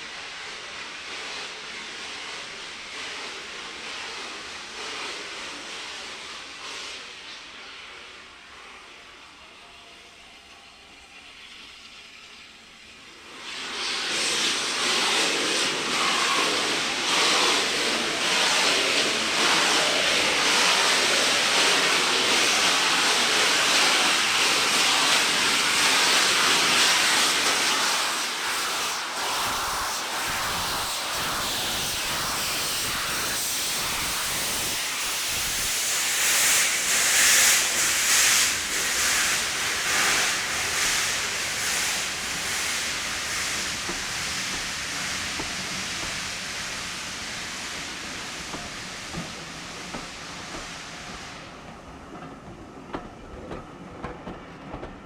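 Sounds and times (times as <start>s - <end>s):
steam locomotive hissing steam: 0.0s - 54.9s.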